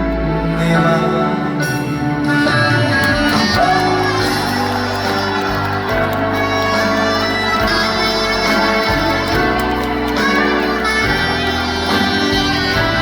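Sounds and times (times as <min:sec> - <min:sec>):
wind instrument melody: 0:00.0 - 0:13.0
instrumental trot song backing: 0:02.3 - 0:13.0.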